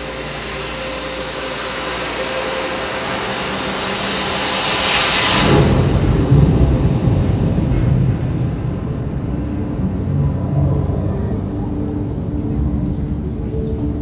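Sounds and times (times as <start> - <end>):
deep low rumble: 0.0 - 14.0
rush of noise over loudspeakers: 0.0 - 14.0.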